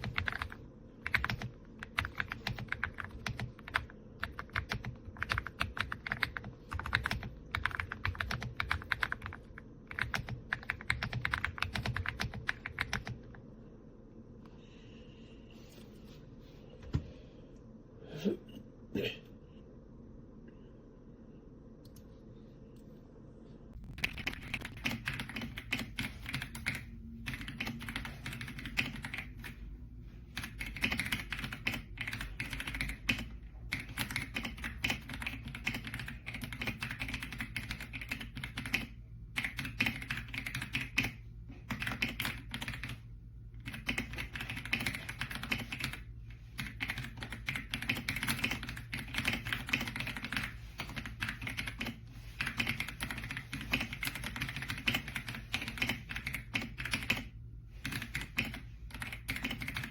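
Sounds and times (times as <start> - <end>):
fast typing on mechanical keyboard: 0.0 - 13.3, 24.0 - 29.6, 30.3 - 43.0, 43.6 - 59.9.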